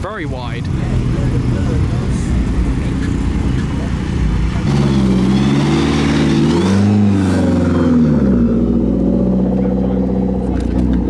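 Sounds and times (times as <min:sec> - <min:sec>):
car engine revving past: 0:00.6 - 0:10.9.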